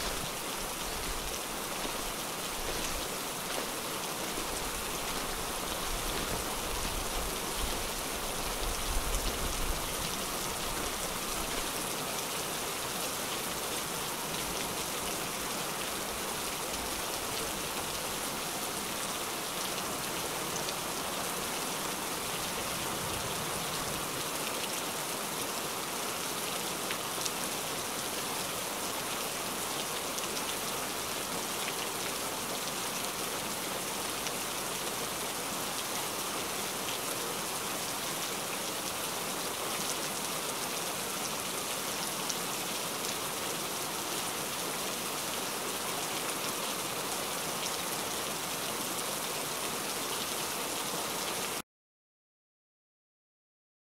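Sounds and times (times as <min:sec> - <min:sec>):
heavy rain falling: 0:00.0 - 0:51.6.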